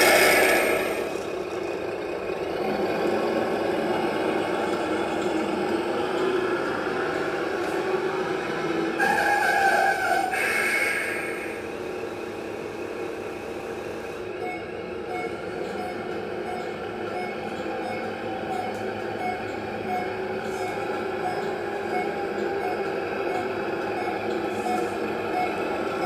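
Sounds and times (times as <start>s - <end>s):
simulated truck engine sound: 0.0s - 26.0s.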